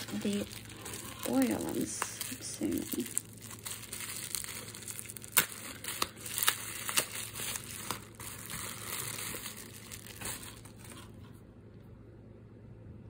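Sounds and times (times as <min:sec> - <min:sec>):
bubble wrap snaps: 0:00.0 - 0:11.2
bubble wrap crinkling: 0:00.0 - 0:11.3.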